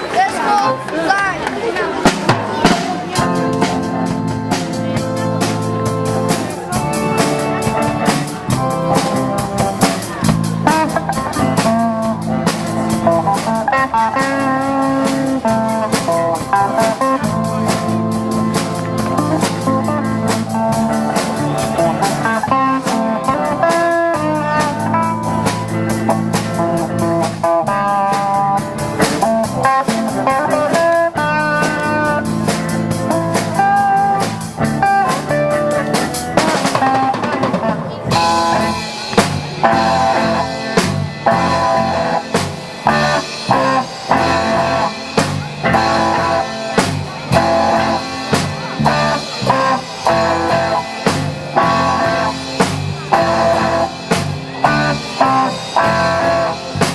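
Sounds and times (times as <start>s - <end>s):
live band with guitar and drums: 0.0s - 56.9s.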